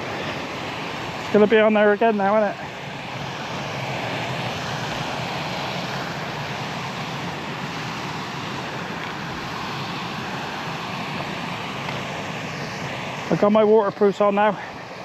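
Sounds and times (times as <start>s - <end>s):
river flowing fast: 0.0s - 15.0s.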